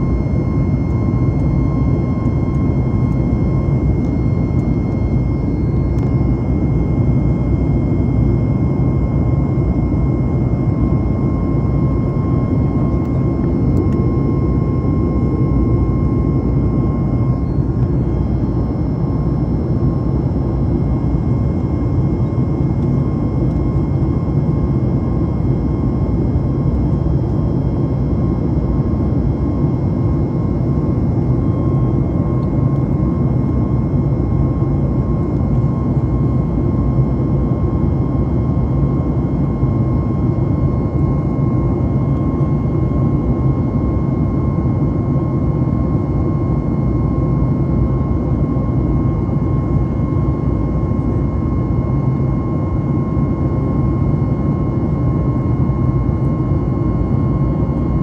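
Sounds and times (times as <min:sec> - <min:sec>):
airplane cabin low rumble: 0:00.0 - 0:58.0
jet engine whine: 0:00.0 - 0:58.0.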